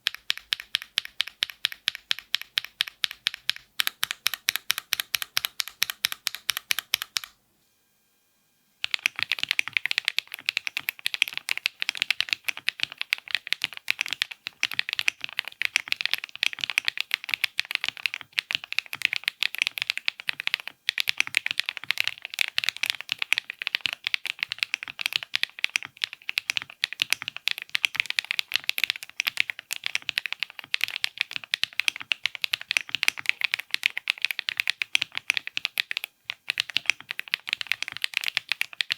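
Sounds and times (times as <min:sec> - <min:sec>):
mechanical keyboard typing: 0:00.0 - 0:07.4, 0:08.8 - 0:38.9.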